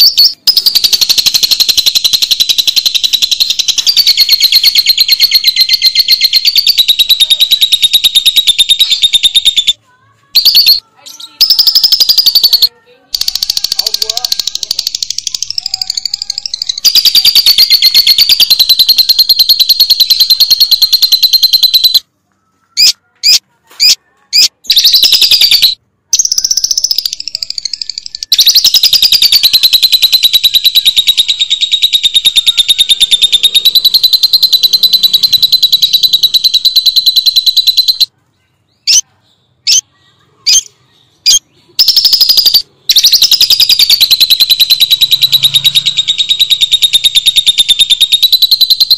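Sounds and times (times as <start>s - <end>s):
bird chattering trill: 0.0s - 9.8s, 10.4s - 22.0s, 22.8s - 38.1s, 38.8s - 39.0s, 39.6s - 48.9s
bird chirps: 0.0s - 9.8s, 10.4s - 22.0s, 22.7s - 48.9s.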